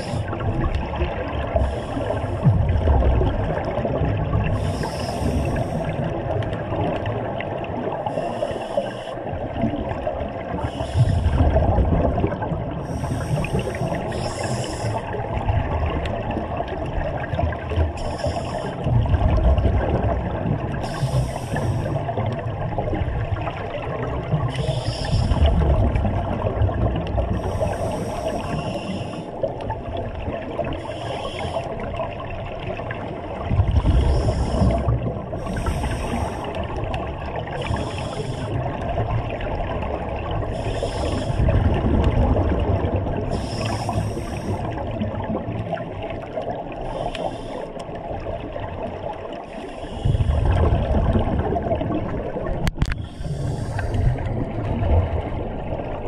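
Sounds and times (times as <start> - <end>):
exhaled bubbles gurgling: 0.0 - 56.0.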